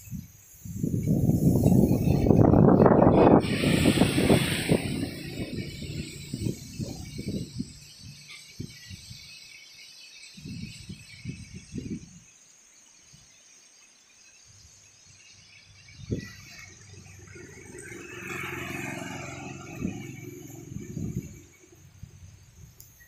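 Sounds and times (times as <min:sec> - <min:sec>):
wind buffeting microphone: 0:00.0 - 0:09.4, 0:10.4 - 0:12.3, 0:15.4 - 0:22.9.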